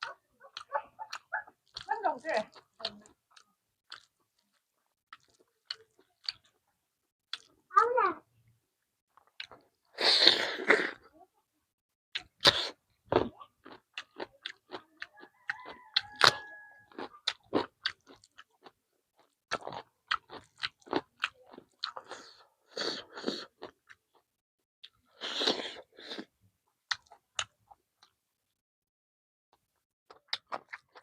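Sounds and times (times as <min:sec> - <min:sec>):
person chewing food: 0:00.0 - 0:07.6, 0:09.1 - 0:11.1, 0:12.2 - 0:28.2, 0:30.1 - 0:31.0.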